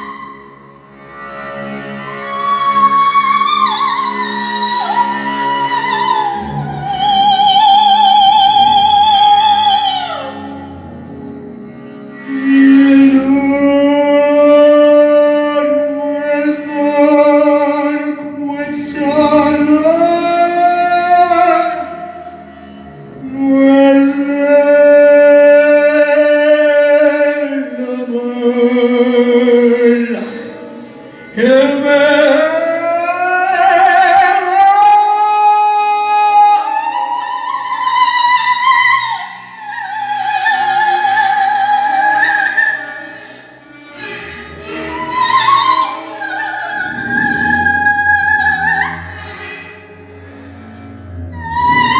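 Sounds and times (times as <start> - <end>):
person singing long notes: 2.0 - 11.4, 12.2 - 43.4, 44.2 - 49.6.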